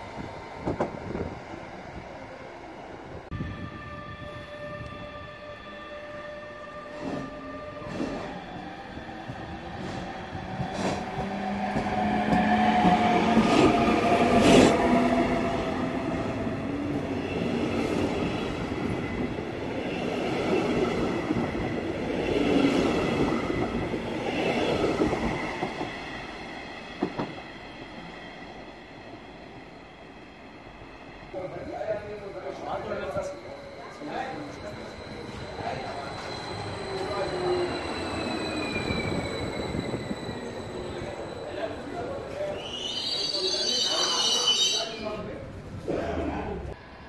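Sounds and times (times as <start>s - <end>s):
train passing: 0.0s - 47.0s.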